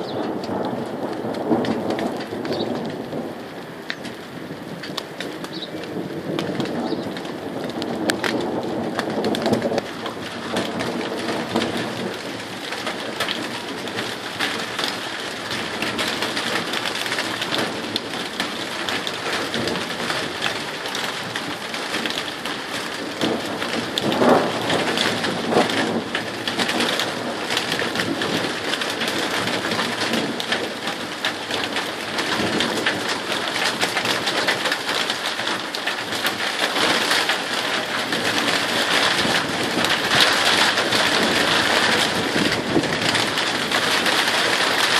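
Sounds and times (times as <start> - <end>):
rain pattering: 0.0 - 44.9
thunder rumbling: 0.0 - 44.9.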